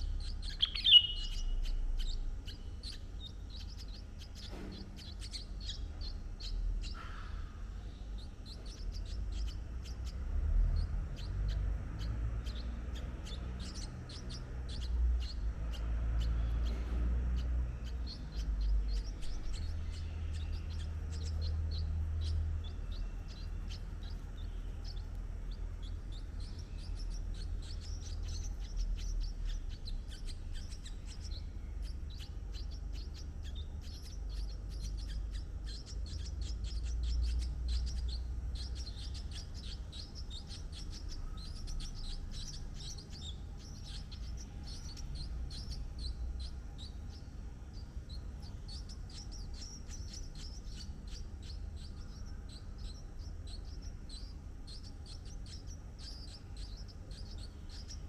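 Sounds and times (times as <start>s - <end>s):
small birds chirping: 0.0s - 58.0s
low rumble: 7.7s - 58.0s.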